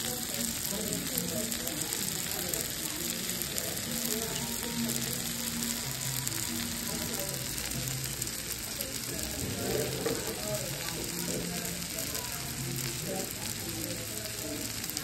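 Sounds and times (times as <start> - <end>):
meat sizzling on a skillet: 0.0 - 15.0.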